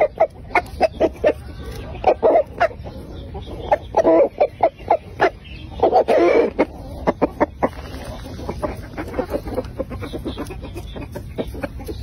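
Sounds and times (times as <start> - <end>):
rooster clucking and calling: 0.0 - 12.0.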